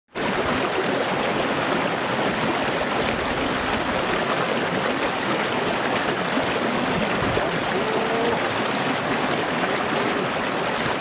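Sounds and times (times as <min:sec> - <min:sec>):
river water rushing over stones: 0:00.2 - 0:11.0.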